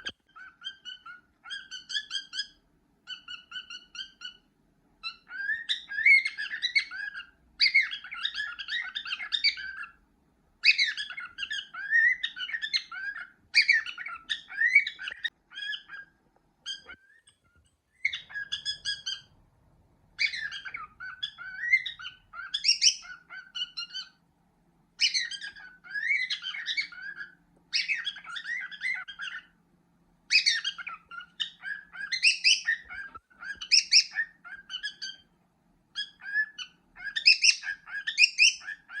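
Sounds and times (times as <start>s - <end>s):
cockatiel whistling and chattering: 0.0s - 10.0s, 10.6s - 19.4s, 20.2s - 24.2s, 25.0s - 29.6s, 30.3s - 39.0s.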